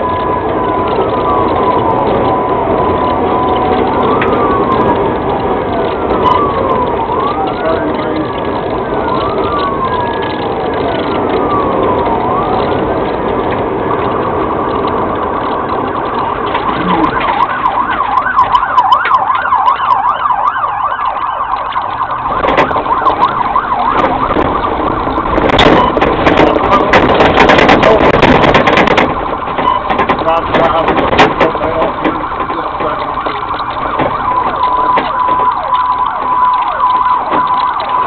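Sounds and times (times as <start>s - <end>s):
car engine and road noise: 0.0s - 38.0s
car knocking and rattling on grass: 0.0s - 38.0s
police siren wailing and yelping: 0.0s - 38.0s.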